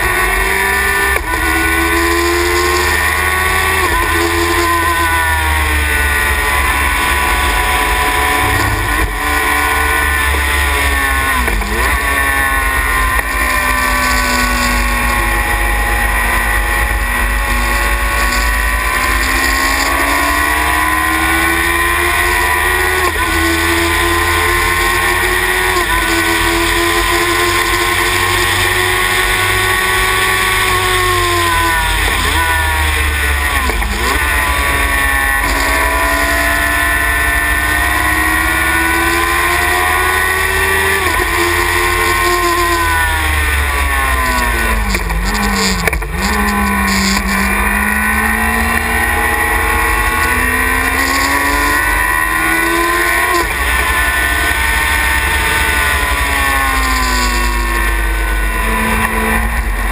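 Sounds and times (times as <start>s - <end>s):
race car engine: 0.0s - 59.9s.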